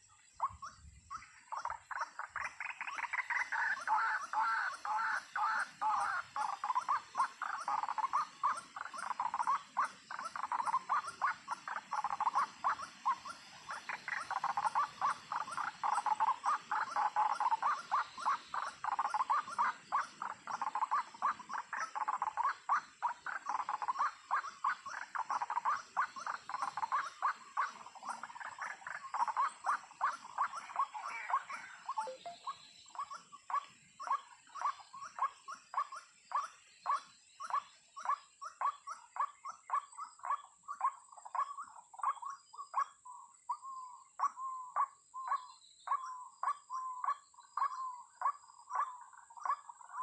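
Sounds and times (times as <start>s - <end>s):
waterhen croaking calls: 0.0s - 50.0s.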